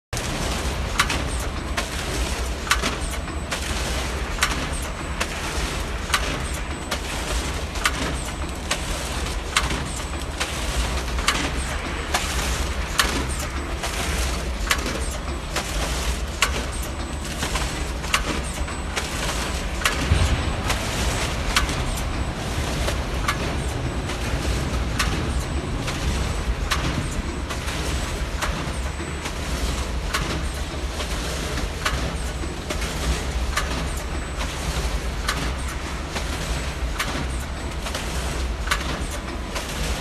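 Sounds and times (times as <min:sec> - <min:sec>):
packing machine clack: 0:00.2 - 0:40.0
packing machine humming: 0:00.2 - 0:40.0.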